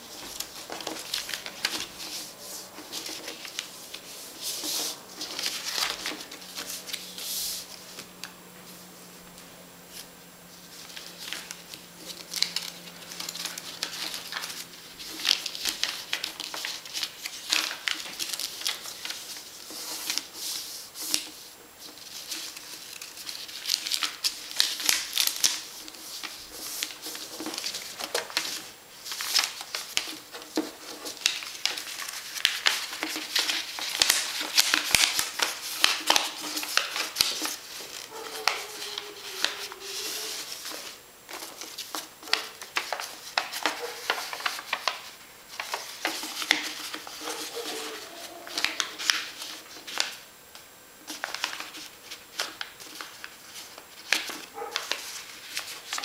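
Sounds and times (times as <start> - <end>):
paper rustling and crinkling: 0.0 - 8.1, 9.9 - 50.2, 51.0 - 56.0.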